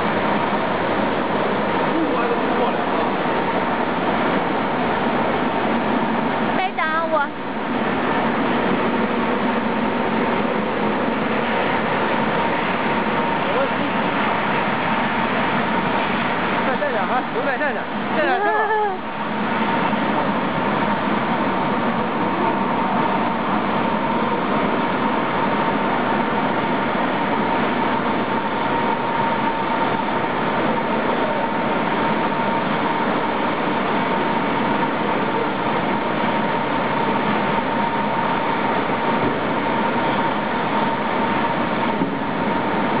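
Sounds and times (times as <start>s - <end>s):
constant high whine: 0.0s - 43.0s
extrusion line mechanical din: 0.0s - 43.0s.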